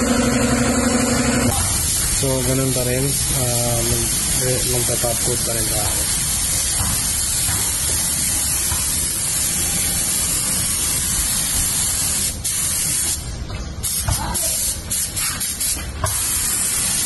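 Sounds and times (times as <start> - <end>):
spray gun hissing: 0.0 - 13.2, 13.8 - 17.0.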